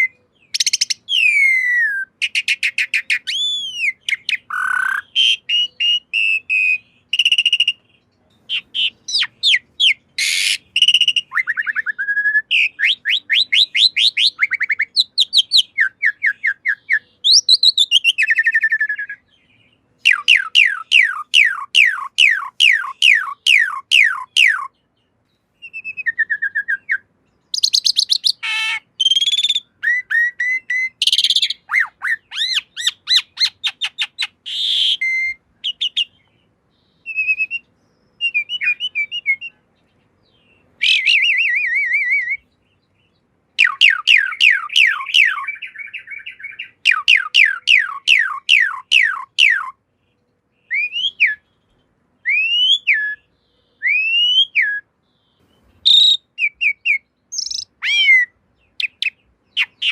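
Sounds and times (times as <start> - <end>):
starling singing: 0.0 - 49.8, 50.6 - 59.9.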